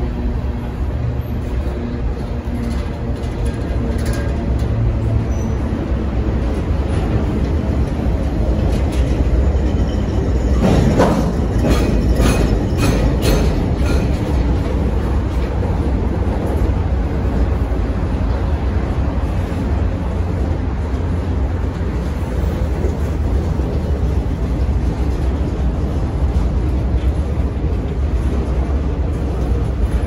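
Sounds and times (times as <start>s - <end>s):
steel wheels rumbling on rail: 0.0s - 30.0s.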